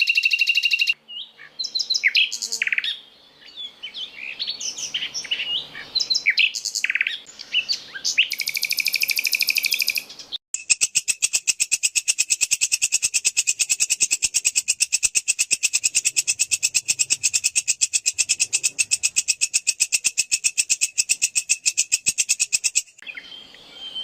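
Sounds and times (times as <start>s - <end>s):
sharp repeated bird notes: 0.0s - 3.0s, 4.3s - 24.0s
bird trill: 0.0s - 24.0s
songbirds chirping and whistling: 0.0s - 24.0s.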